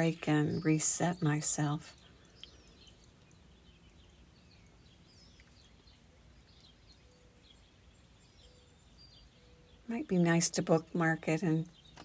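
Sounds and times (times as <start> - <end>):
faint birdsong chirps: 0.0 - 12.0
low steady hum: 0.0 - 12.0.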